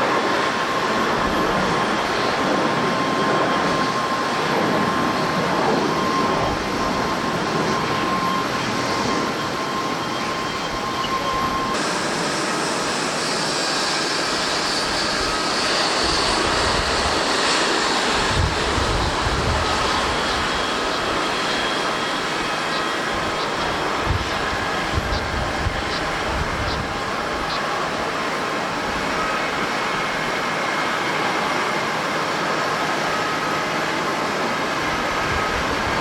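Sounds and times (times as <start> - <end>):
jet engines rushing: 0.0 - 36.0.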